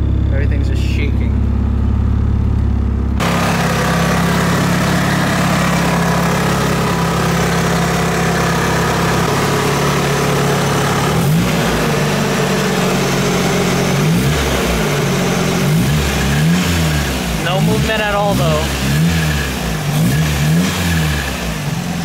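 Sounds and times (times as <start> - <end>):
car engine idling: 0.0 - 22.0
engine revving: 0.0 - 22.0.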